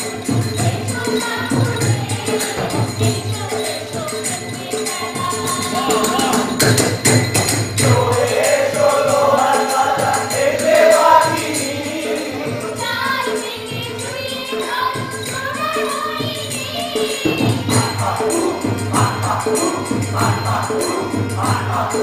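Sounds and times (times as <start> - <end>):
group of voices singing: 0.0 - 22.0
hand drum beats: 0.0 - 22.0.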